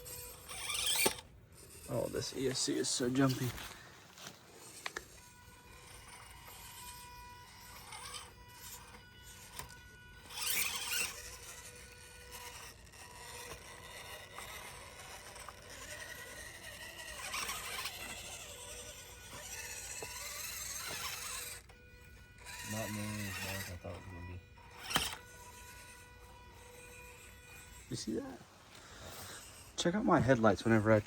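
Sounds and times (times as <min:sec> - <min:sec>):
rc car motor whine: 0:00.0 - 0:31.0
tire and chassis scraping: 0:00.0 - 0:31.0.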